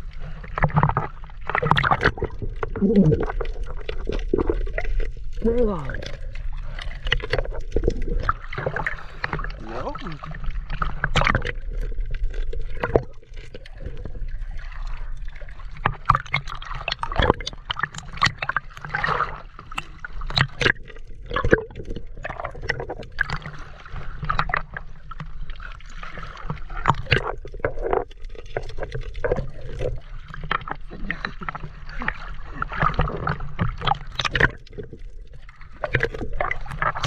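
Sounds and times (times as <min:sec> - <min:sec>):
gurgling bubbles underwater: 0:00.0 - 0:37.0.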